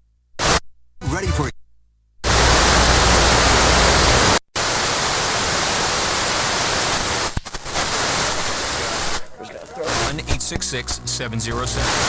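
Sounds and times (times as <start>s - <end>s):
radio static hiss: 0.4s - 0.6s, 2.2s - 12.0s.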